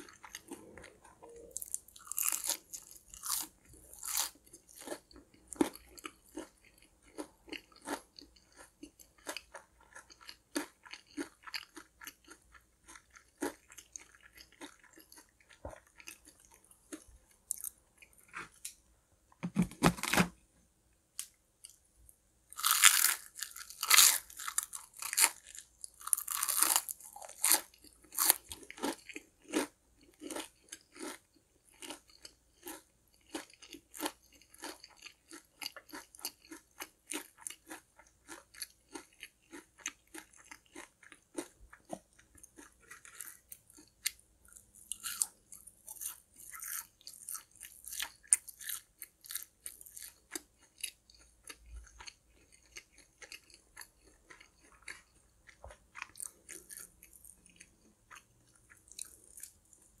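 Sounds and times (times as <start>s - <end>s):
crunchy food chewing: 0.0s - 18.8s, 22.5s - 60.0s.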